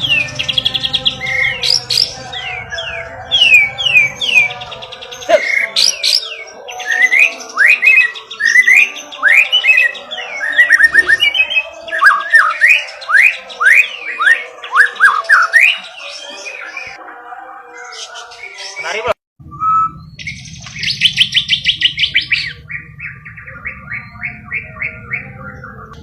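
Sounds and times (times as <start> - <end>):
bird singing whistles and trills: 0.0 - 17.0, 17.8 - 26.0.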